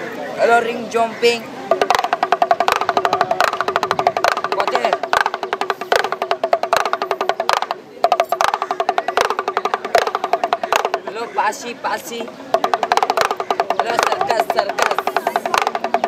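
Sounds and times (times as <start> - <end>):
hand drum rattling: 1.7 - 11.3, 12.0 - 16.0.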